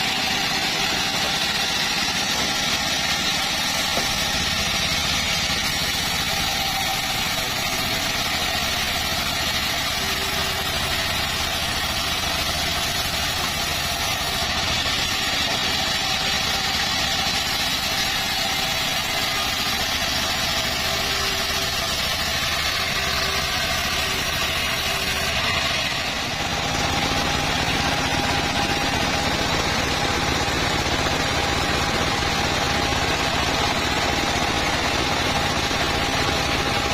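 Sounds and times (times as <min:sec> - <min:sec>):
circular saw cutting wood: 0:00.0 - 0:36.9.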